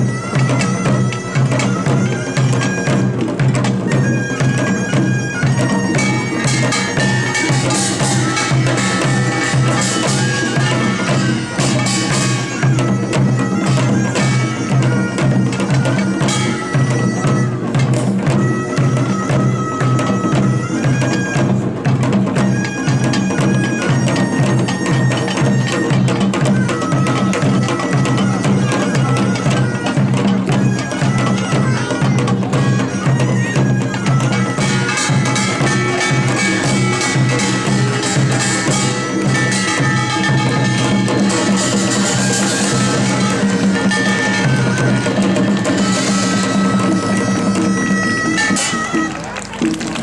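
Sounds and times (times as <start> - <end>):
drums and small gongs beat: 0.0 - 50.0
reedy shawm melody: 0.0 - 50.0.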